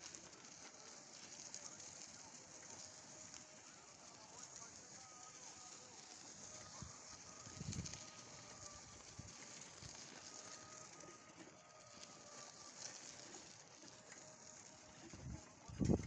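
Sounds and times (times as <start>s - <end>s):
faint steady hiss: 0.0s - 15.9s.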